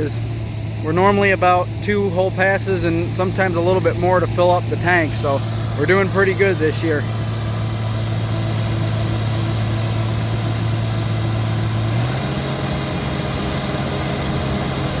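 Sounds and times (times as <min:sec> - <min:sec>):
combine harvester engine hum: 0:00.0 - 0:15.0.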